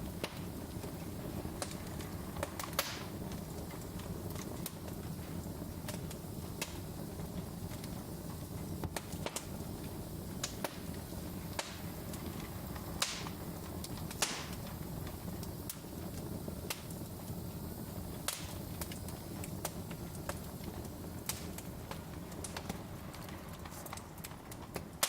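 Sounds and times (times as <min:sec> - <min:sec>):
fire hissing flares: 0:00.0 - 0:25.0
wood fire crackling: 0:00.0 - 0:25.0.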